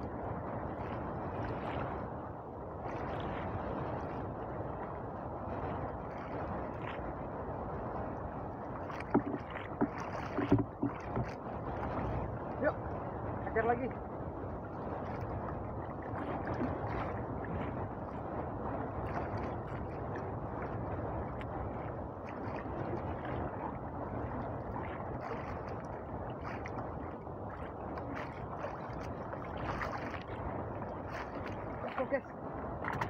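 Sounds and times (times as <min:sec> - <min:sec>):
water sloshing against boat hull: 0:00.0 - 0:05.0, 0:08.4 - 0:33.0.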